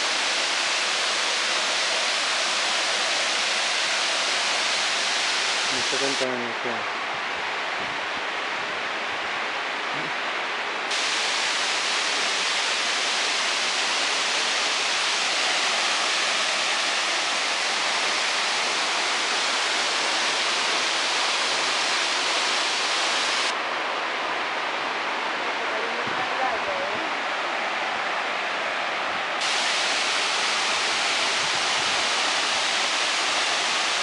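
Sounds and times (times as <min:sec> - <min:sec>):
water rushing over rocks: 0:00.0 - 0:07.2, 0:09.7 - 0:23.6, 0:24.7 - 0:34.0.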